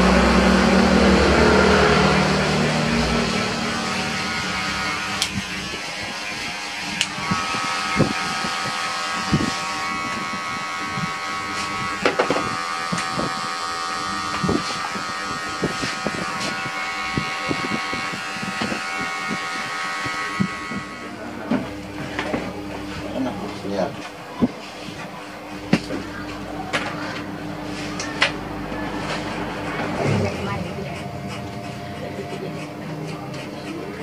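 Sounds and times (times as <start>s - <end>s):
hair clipper buzzing: 0.0s - 30.0s.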